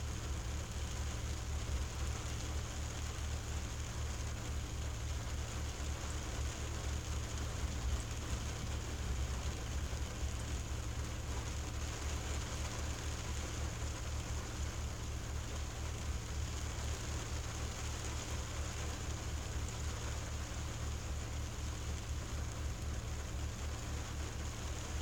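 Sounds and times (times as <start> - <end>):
rain on car windshield: 0.0 - 25.0.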